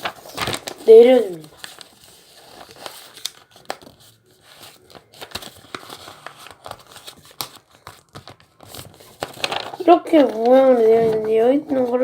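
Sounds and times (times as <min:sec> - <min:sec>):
paper being folded and crinkling: 0:00.0 - 0:12.0.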